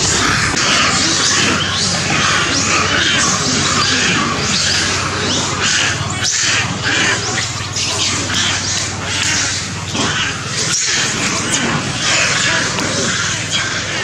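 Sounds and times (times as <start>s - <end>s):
mass of animal calls and squawks: 0.0s - 14.0s.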